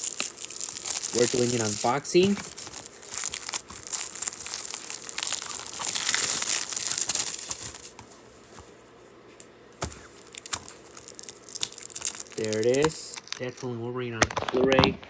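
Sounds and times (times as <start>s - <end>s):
plastic wrap crinkling: 0.0s - 8.8s, 9.8s - 13.7s.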